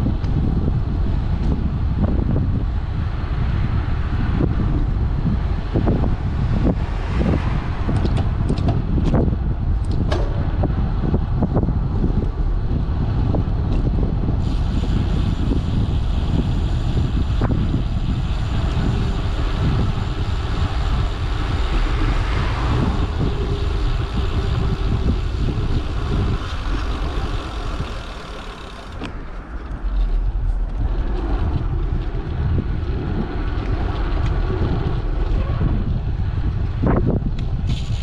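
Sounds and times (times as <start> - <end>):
road rumble: 0.0 - 38.0
wind rushing over microphone: 0.0 - 38.0.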